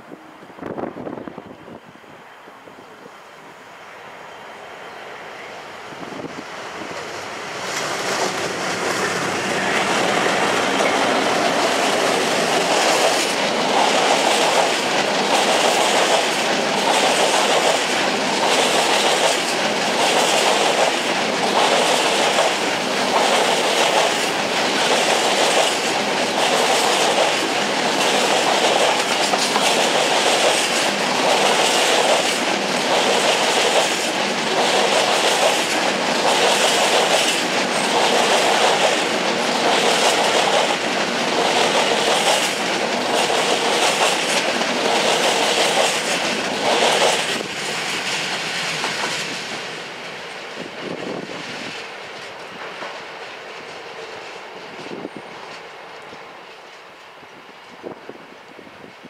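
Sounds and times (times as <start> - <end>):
diesel locomotive passing: 0.0 - 58.9.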